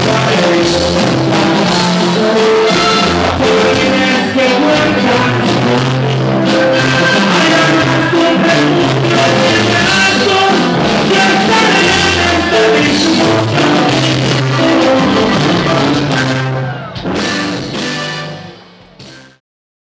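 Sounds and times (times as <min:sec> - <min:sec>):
man singing into a microphone: 0:00.0 - 0:17.0
button accordion: 0:00.0 - 0:19.4
guitar: 0:00.0 - 0:19.4.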